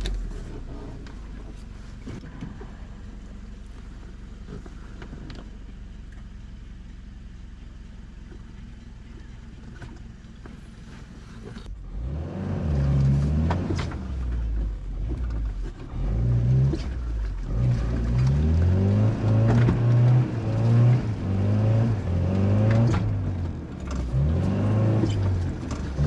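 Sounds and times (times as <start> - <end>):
off-road engine revving: 0.0 - 6.3, 6.9 - 26.0.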